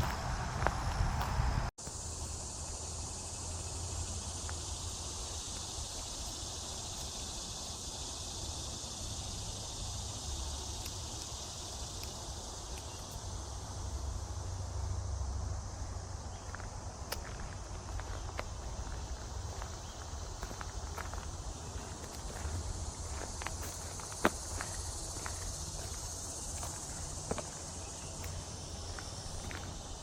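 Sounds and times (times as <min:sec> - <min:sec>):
insect chorus: 0:00.0 - 0:30.0.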